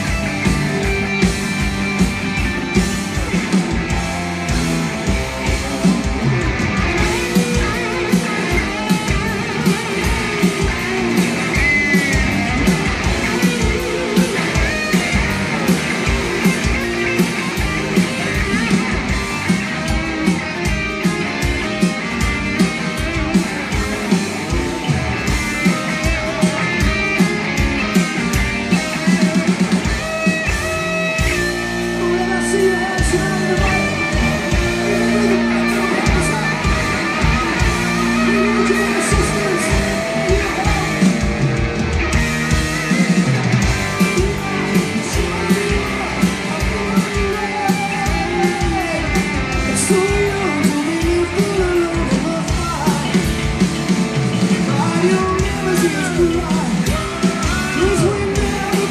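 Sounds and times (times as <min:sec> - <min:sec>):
heavy rock band playing: 0:00.0 - 0:58.9.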